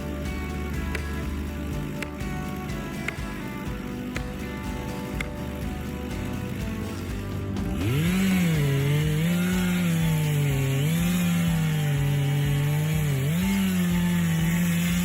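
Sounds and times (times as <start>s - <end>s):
chainsaw cutting at full throttle: 0.0s - 15.0s.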